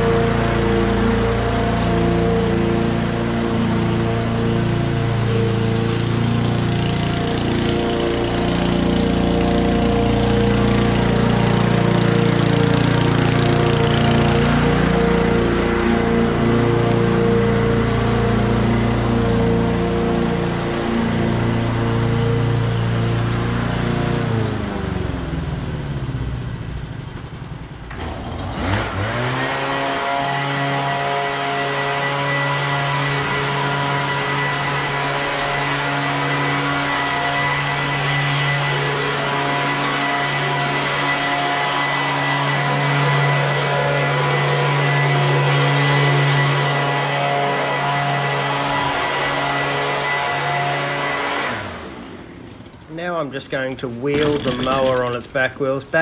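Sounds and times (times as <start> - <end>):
lawnmower engine running: 0.0 - 56.0.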